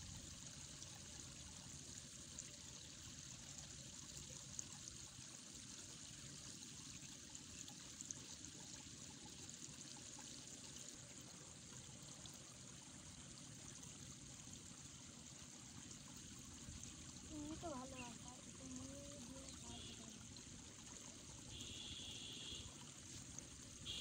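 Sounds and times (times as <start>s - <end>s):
faint outdoor hiss: 0.0s - 24.0s.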